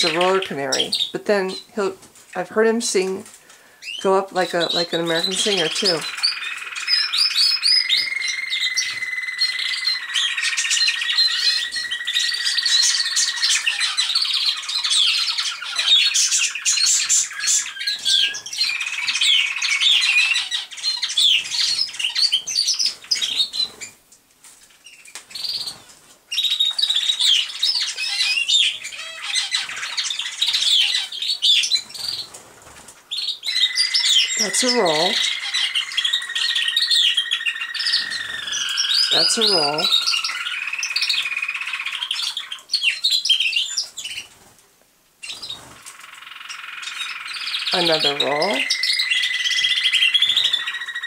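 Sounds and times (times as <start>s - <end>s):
canary singing: 0.0s - 24.0s, 24.7s - 44.5s, 45.2s - 51.0s.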